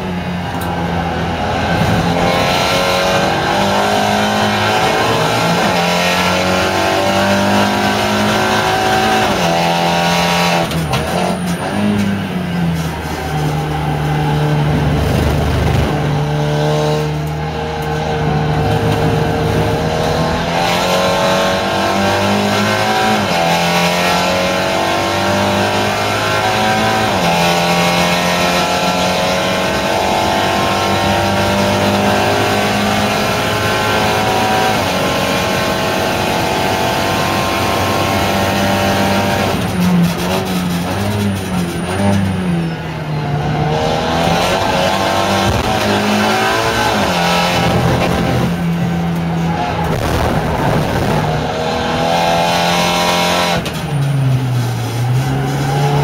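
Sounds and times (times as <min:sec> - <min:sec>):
race car engine accelerating: 0:00.0 - 0:56.0
road and wind noise: 0:00.0 - 0:56.0.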